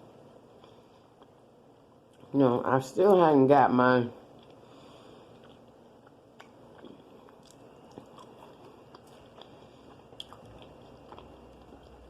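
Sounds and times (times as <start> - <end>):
person chewing food: 0.1 - 2.3, 4.3 - 12.0.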